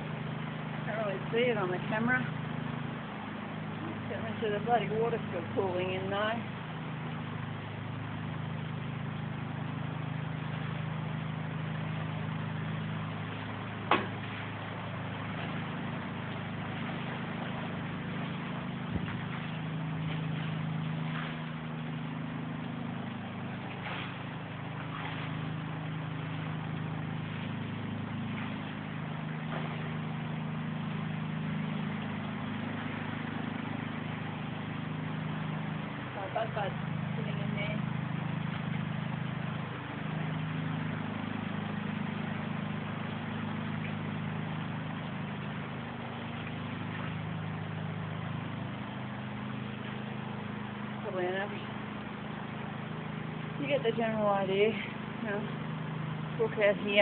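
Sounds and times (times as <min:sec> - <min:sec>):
low droning hum: 0:00.0 - 0:57.0.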